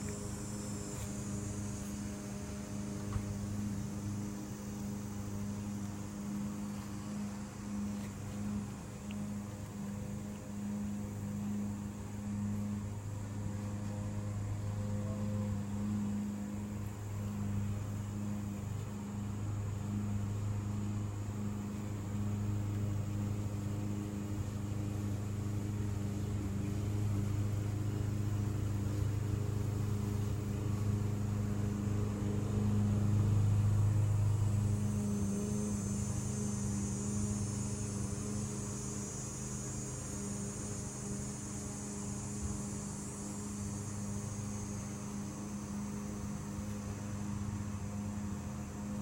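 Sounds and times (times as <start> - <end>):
faint high whine: 0.0 - 49.0
steady low hum: 0.0 - 49.0.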